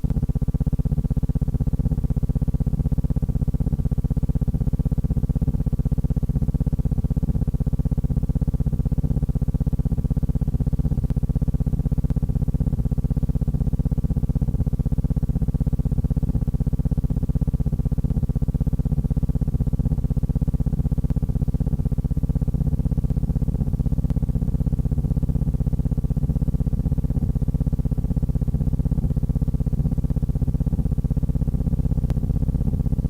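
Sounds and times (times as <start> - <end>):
low buzzing hum: 0.0 - 33.0.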